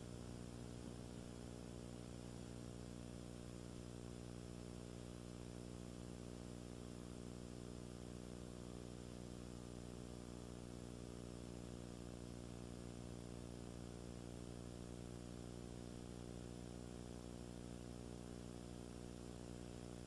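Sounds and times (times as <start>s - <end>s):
faint electrical hum with hiss: 0.0s - 20.0s.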